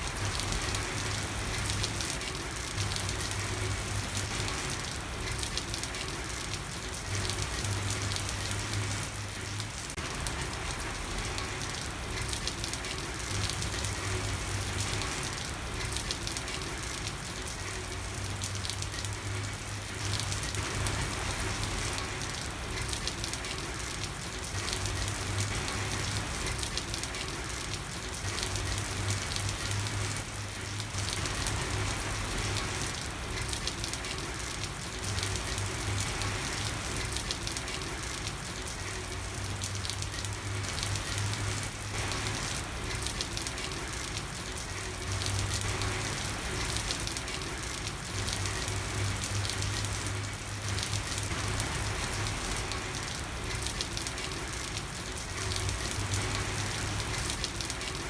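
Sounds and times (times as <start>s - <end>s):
rain falling on a street: 0.0s - 58.0s.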